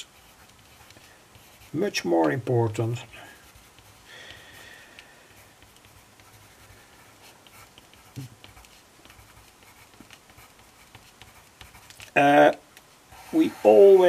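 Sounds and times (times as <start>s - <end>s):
pencil scratching on paper: 0.0s - 4.6s, 5.4s - 12.2s, 13.1s - 14.0s.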